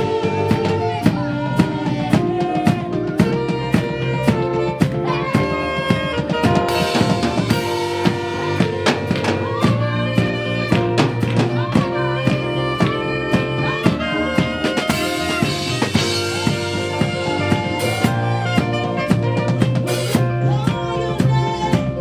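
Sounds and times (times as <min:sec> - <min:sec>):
drum kit beat: 0:00.0 - 0:22.0
live gospel band music: 0:00.0 - 0:22.0.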